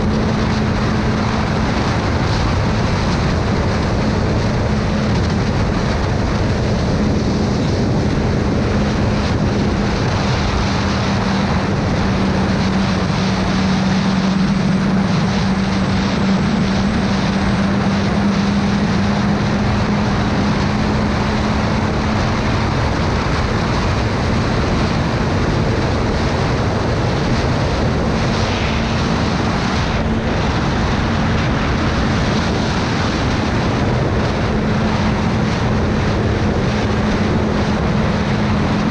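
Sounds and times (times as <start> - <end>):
motorcycle engine humming: 0.0 - 38.9
wind rush over microphone: 0.0 - 38.9.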